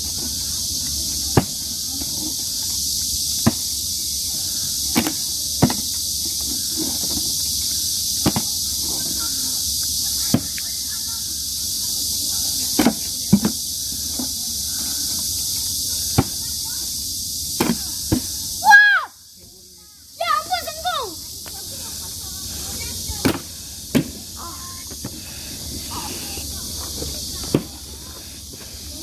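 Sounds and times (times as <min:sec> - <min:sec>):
high-pitched hiss: 0:00.0 - 0:29.0.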